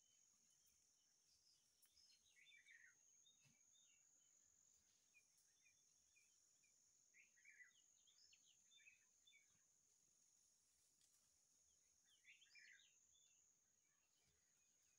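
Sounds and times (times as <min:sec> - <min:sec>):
songbirds chirping: 0:00.0 - 0:14.9.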